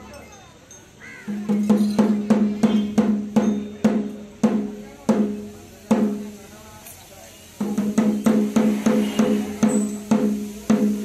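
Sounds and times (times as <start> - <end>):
ceremonial drum beating: 1.3 - 6.6, 7.5 - 11.0.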